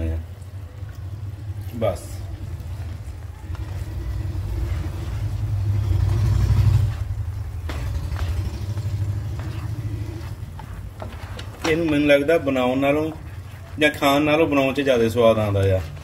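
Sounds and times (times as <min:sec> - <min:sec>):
spatula stirring gravy in steel pan: 0:02.4 - 0:16.0.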